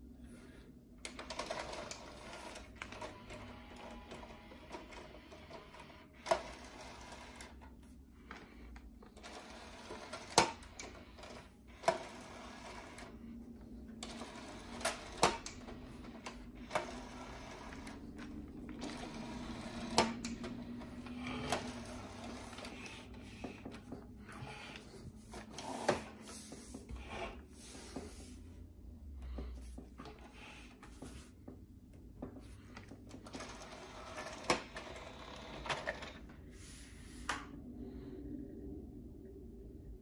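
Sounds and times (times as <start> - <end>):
faint low motor whir: 0.0 - 40.0.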